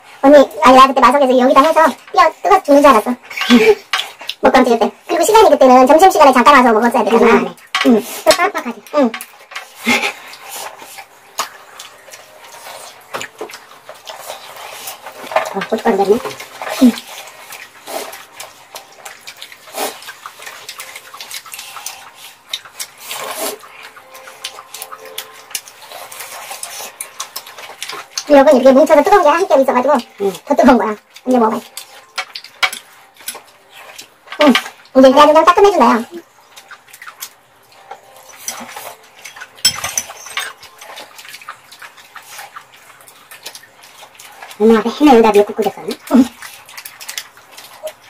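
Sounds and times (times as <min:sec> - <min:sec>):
wet chewing and smacking: 0:00.1 - 0:48.0.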